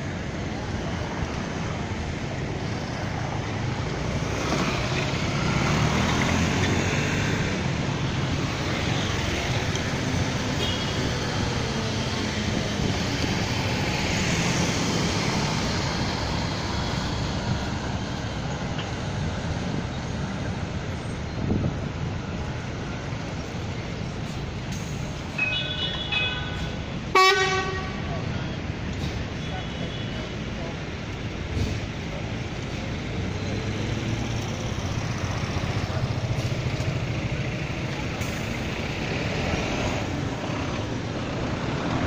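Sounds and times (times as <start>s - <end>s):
street traffic: 0.0s - 42.0s.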